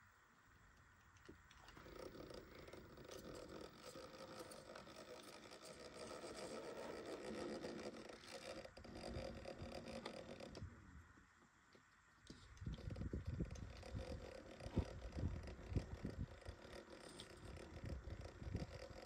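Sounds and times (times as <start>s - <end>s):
tyres scraping on rock: 1.6s - 10.6s, 12.3s - 19.0s
small electric motor whirring: 1.6s - 10.7s, 12.3s - 19.0s.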